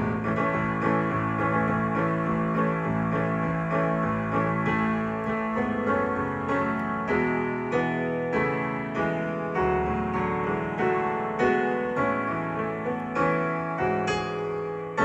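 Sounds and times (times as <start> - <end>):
slow hymn-like piano: 0.0 - 15.0.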